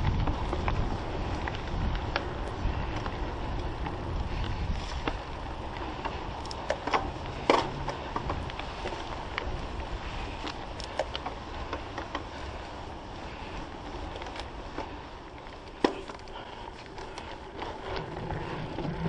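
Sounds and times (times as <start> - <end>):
bike clicking and rattling: 0.0 - 19.0
tyre and wind rush: 0.0 - 19.0.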